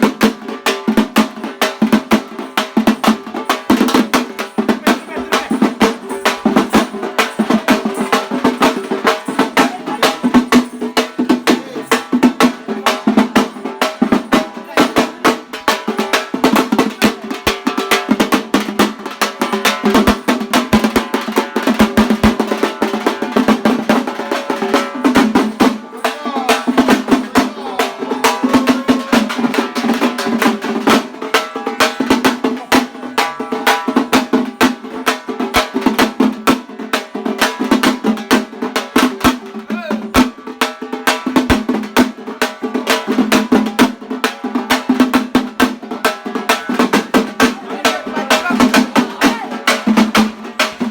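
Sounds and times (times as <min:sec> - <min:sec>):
rapid drum strokes: 0:00.0 - 0:50.9.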